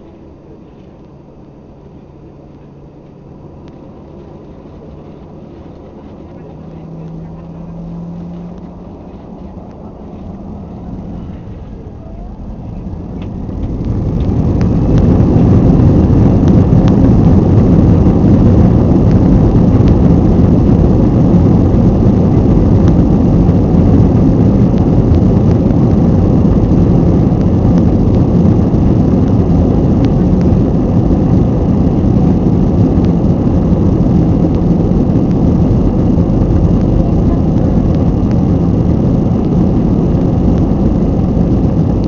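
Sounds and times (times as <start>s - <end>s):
jet engines rumbling in cabin: 0.0s - 42.0s.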